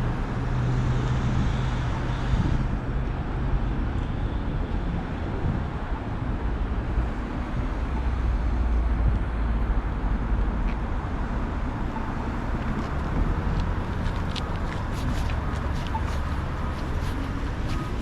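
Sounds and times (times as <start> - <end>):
low rumble of passing vehicles: 0.0 - 18.0.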